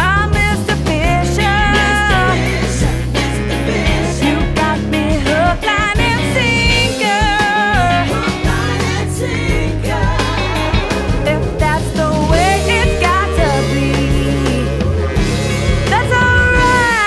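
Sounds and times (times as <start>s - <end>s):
bass line: 0.0s - 7.0s, 7.8s - 17.0s
drums: 0.0s - 17.0s
electric lead guitar: 0.0s - 17.0s.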